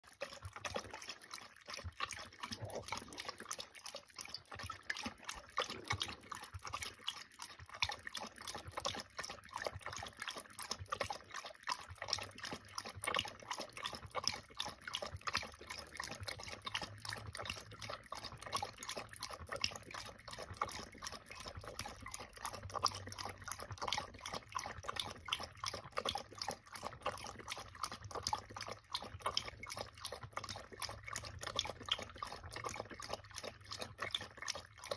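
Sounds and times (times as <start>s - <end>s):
dog lapping water from metal bowl: 0.0s - 34.9s.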